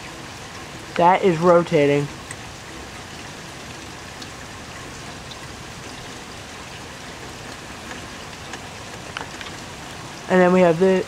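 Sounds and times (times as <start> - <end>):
rain falling: 0.0 - 11.0
faint raindrop ticks: 0.7 - 10.8.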